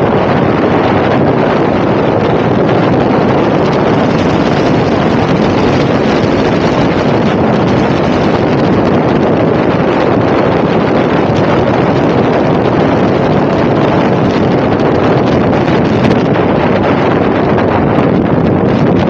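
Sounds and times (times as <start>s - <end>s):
wind rushing on microphone: 0.0s - 19.0s.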